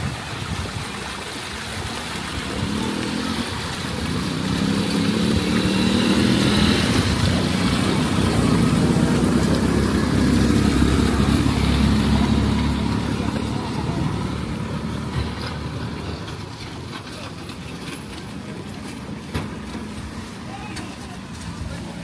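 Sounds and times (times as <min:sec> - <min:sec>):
water noise: 0:00.0 - 0:22.0
vehicle engine approaching: 0:01.1 - 0:22.0.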